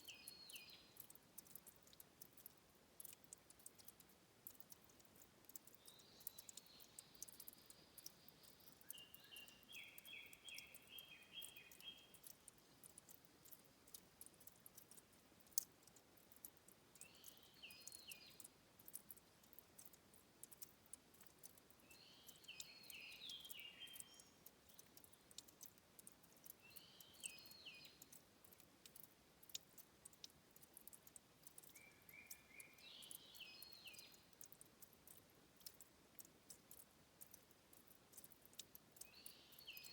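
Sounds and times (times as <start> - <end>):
small bird singing: 0.0 - 29.6, 30.8 - 35.8, 37.3 - 39.9
water dripping: 0.0 - 39.9.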